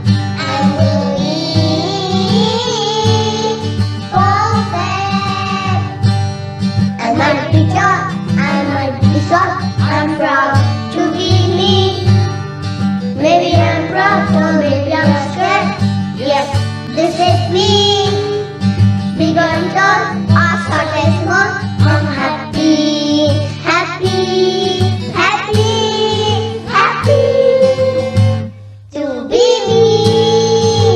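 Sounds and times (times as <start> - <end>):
instrumental accompaniment with bass: 0.0 - 30.9
children's choir singing: 0.4 - 6.0, 7.0 - 12.3, 13.2 - 18.5, 19.2 - 30.9.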